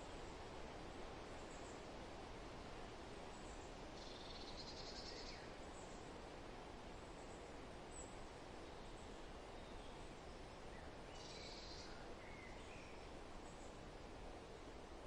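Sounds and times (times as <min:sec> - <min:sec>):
wind rustling through trees: 0:00.0 - 0:15.0.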